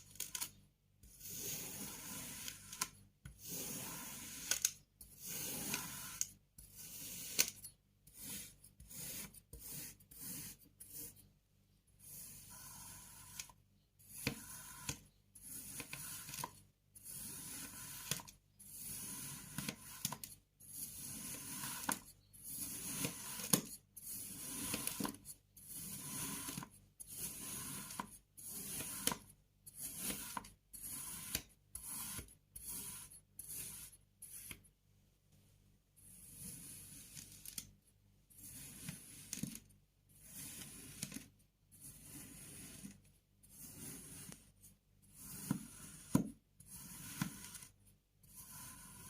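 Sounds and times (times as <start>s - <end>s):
knife cutting kinetic sand: 0.0s - 34.7s, 36.0s - 49.0s.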